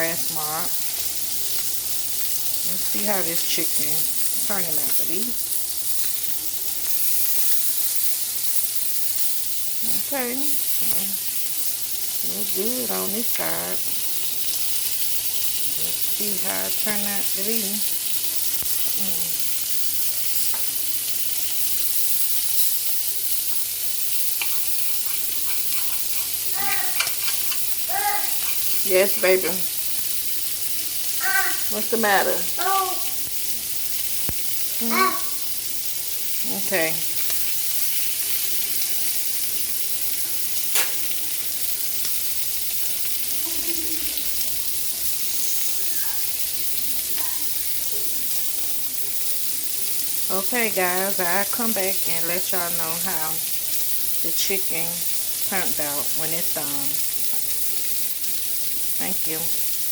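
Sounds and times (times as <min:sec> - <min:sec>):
chicken sizzling on a grill: 0:00.0 - 0:59.9.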